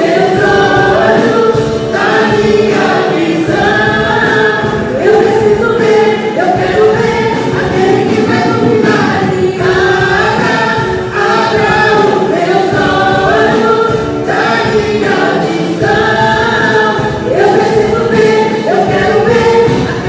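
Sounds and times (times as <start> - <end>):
choir singing: 0.0 - 20.0
musical accompaniment: 0.0 - 20.0.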